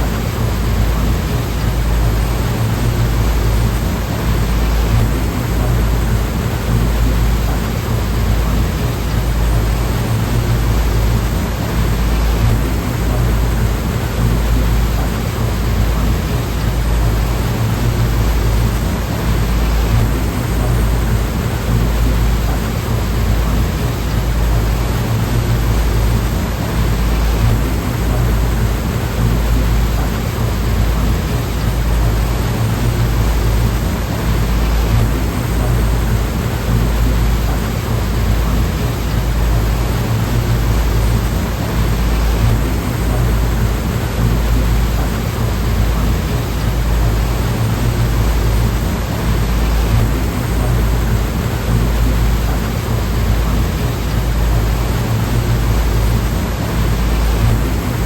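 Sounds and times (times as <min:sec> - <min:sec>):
deep rumble: 0:00.0 - 0:58.0
rushing sea: 0:00.0 - 0:58.0.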